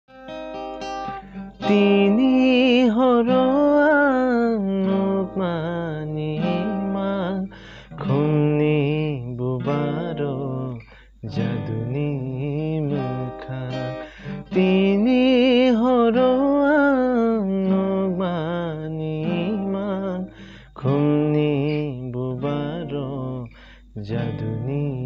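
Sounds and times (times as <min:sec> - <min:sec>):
strummed acoustic guitar: 0:00.1 - 0:25.0
man singing: 0:01.6 - 0:25.0.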